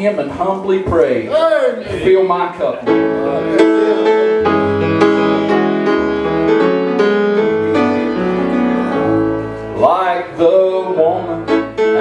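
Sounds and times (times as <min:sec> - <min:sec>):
grand piano playing hymn: 0:02.0 - 0:12.0.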